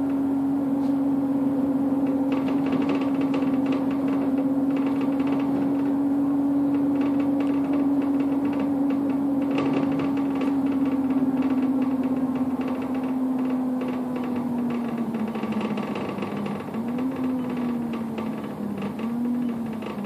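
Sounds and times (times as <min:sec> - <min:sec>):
bus drivetrain droning hum: 0:00.0 - 0:20.0
light rattles: 0:00.0 - 0:20.0.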